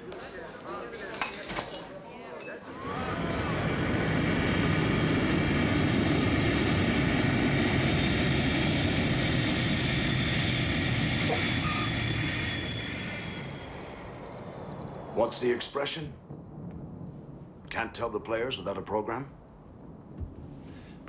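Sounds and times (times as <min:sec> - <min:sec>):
aircraft engines droning: 0:02.5 - 0:21.0.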